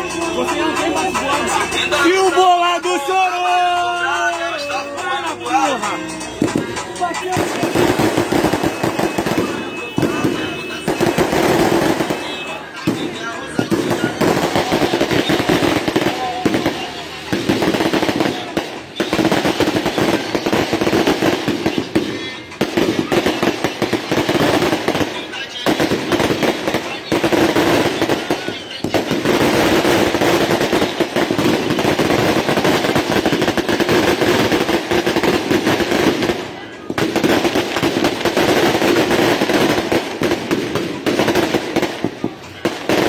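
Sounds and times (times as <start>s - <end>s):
crowd voices: 0.0s - 43.0s
firecrackers crackling: 0.0s - 43.0s
music: 0.0s - 43.0s.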